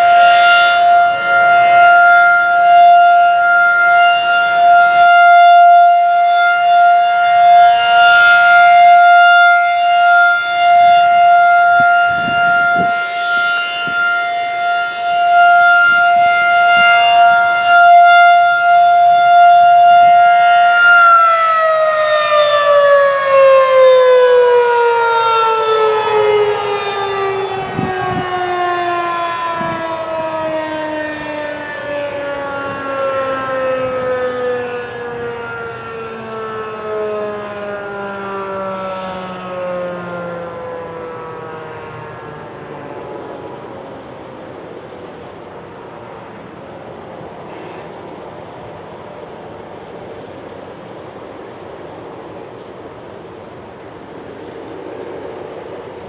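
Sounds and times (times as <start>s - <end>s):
rotating warning siren: 0.0s - 56.0s.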